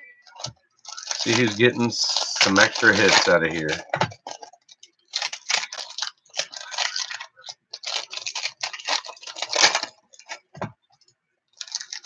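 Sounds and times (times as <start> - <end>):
foil wrappers crinkling and tearing: 0.2 - 10.6, 11.6 - 12.0.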